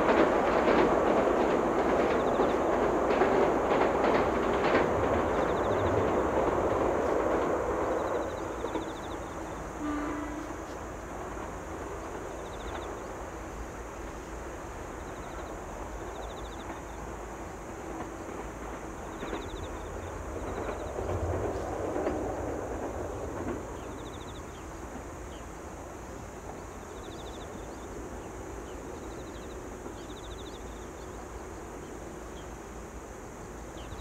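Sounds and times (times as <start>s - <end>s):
distant electric train rumble: 0.0s - 34.0s.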